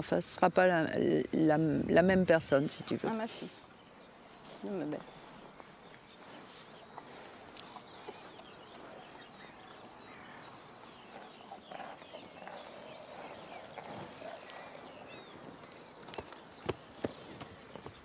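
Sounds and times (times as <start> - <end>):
small birds chirping: 0.3 - 18.0.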